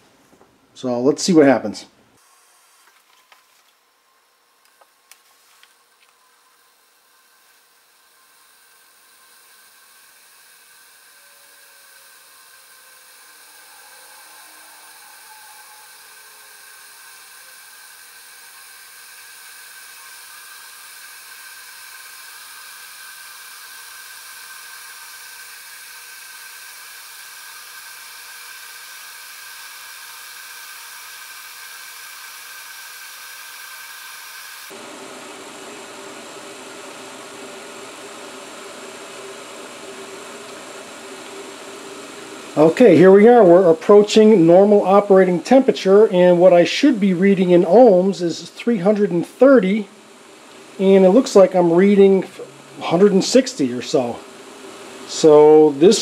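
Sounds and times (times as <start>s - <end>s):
pot of water hissing: 5.9s - 56.0s.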